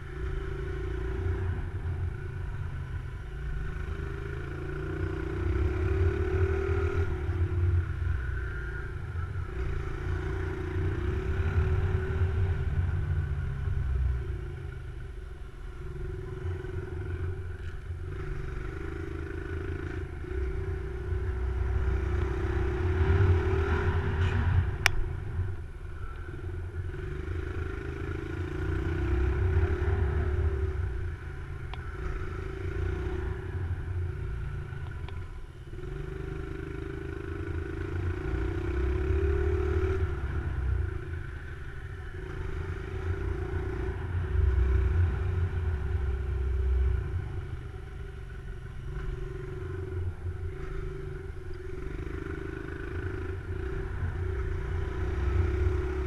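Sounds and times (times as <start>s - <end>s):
motorcycle engine revving: 0.0s - 15.1s, 15.7s - 56.0s.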